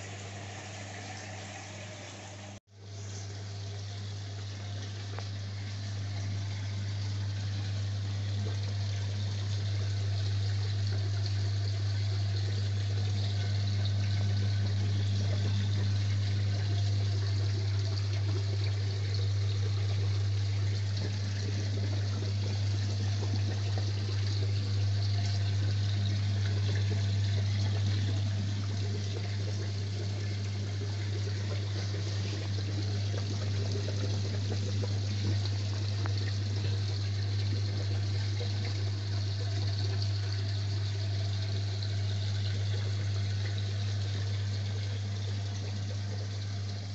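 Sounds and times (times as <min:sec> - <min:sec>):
aquarium filter pump humming: 0:00.0 - 0:46.9
water splashing and trickling: 0:00.0 - 0:46.9.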